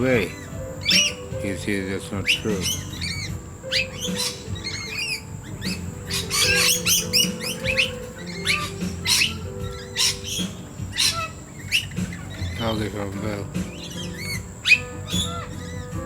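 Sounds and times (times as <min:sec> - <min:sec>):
background music with held notes: 0:00.0 - 0:16.0
small birds chirping: 0:00.0 - 0:16.0.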